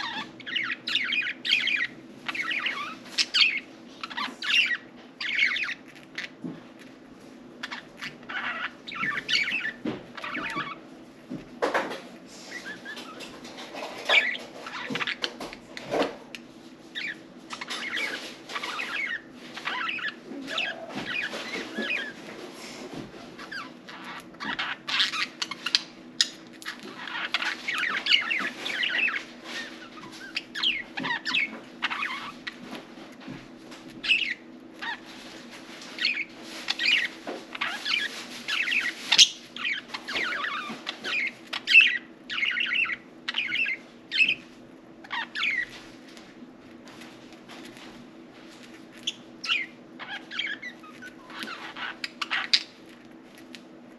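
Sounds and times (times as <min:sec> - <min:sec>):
budgerigars chirping and chattering: 0:00.0 - 0:06.4, 0:07.6 - 0:10.8, 0:11.6 - 0:16.1, 0:16.9 - 0:45.8, 0:48.9 - 0:52.9.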